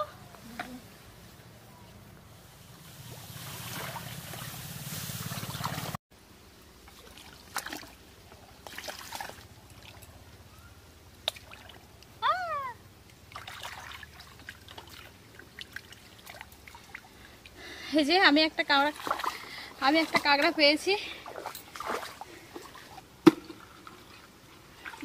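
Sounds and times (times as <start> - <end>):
rustle: 0.0 - 25.0
shallow water trickling and splashing: 2.5 - 6.0, 6.8 - 10.4, 11.2 - 12.2, 13.0 - 25.0.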